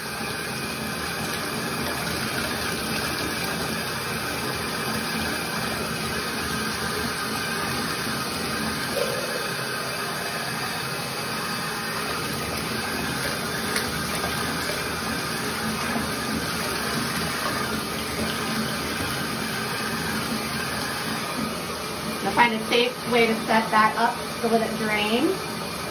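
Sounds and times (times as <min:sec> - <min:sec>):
water splashing into bathtub: 0:00.7 - 0:25.9.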